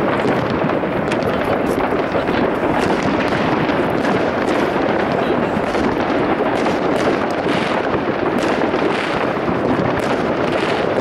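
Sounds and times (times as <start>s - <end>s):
distant fireworks crackling: 0.0s - 11.0s.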